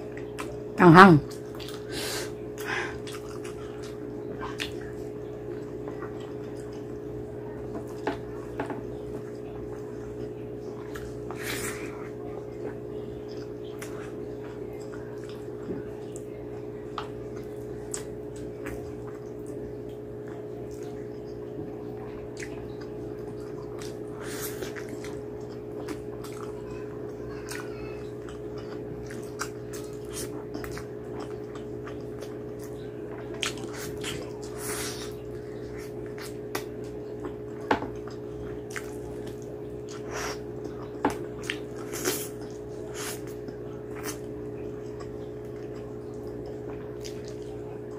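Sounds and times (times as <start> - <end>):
steady low hum: 0.0 - 47.9
wet chewing: 1.2 - 47.9.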